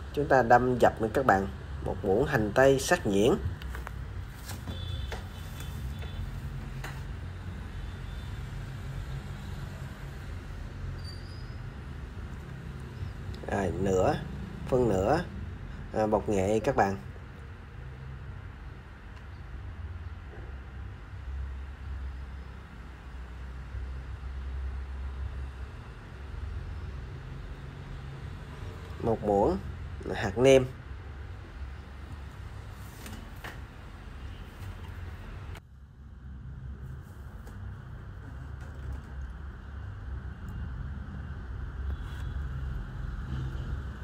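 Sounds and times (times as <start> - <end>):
low road traffic rumble: 0.0 - 44.0.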